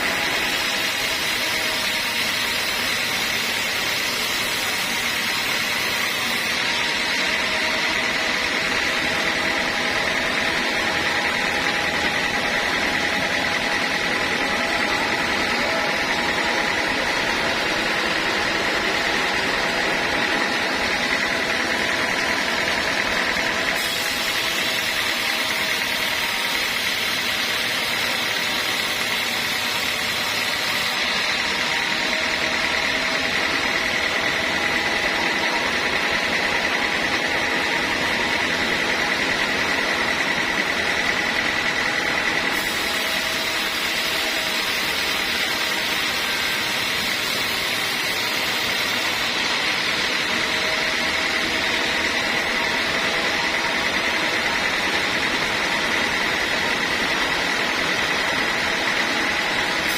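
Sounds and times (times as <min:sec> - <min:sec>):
band saw cutting log: 0:00.0 - 0:59.9
high whine and hiss: 0:00.0 - 0:59.9.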